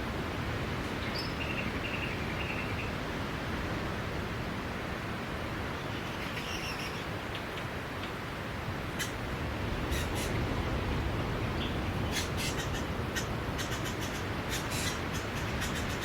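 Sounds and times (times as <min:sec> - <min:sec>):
sea waves on a beach: 0:00.0 - 0:16.0.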